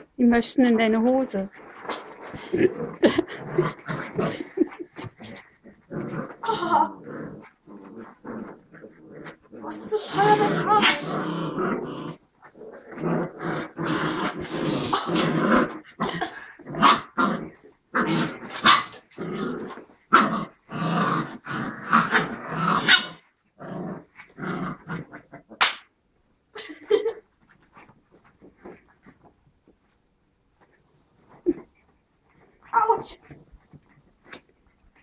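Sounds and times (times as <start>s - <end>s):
puppies growling and barking: 0.9s - 35.0s.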